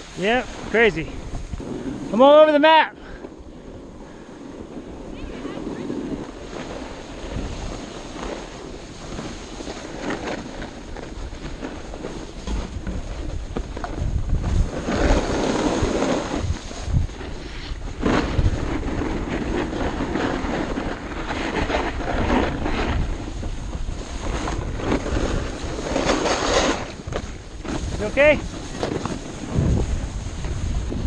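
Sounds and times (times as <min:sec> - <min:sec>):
skis scraping on hard snow: 0:00.0 - 0:31.0
wind rushing over microphone: 0:00.0 - 0:31.0.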